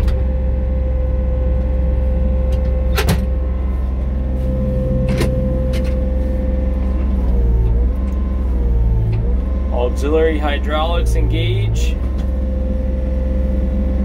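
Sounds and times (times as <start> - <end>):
diesel engine running: 0.0 - 14.0
steady whine: 0.0 - 14.0.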